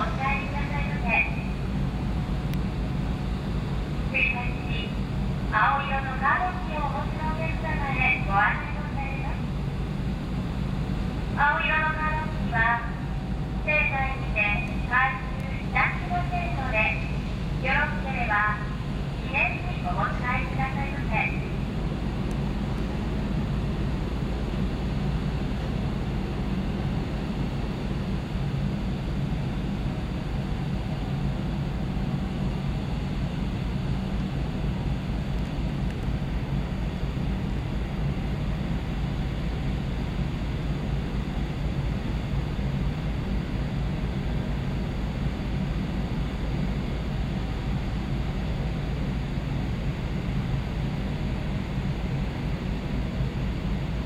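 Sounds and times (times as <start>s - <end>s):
ship engine drone: 0.0s - 54.0s.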